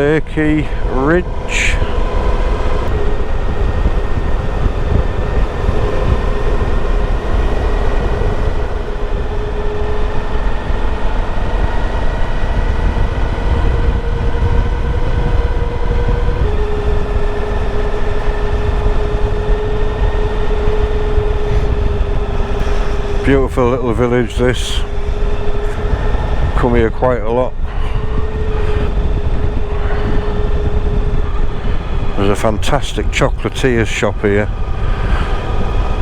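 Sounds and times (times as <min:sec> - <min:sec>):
motorcycle engine cruising: 0:00.0 - 0:36.0
steady tone: 0:00.0 - 0:36.0
wind rumble: 0:00.0 - 0:36.0.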